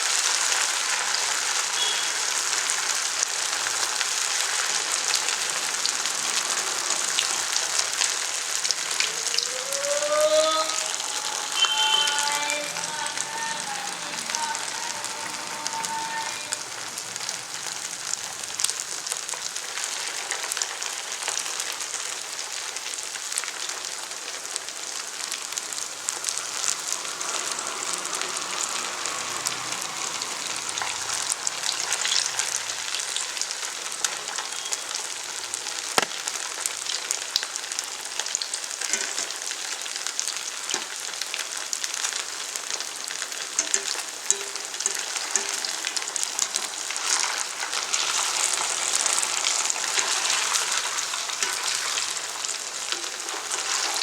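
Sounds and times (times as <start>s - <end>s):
food deep-frying in oil: 0.0s - 54.0s.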